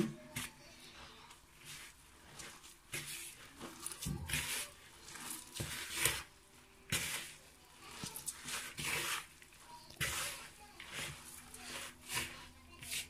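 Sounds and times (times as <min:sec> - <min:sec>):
hands squishing wet mixture: 0:00.0 - 0:13.0.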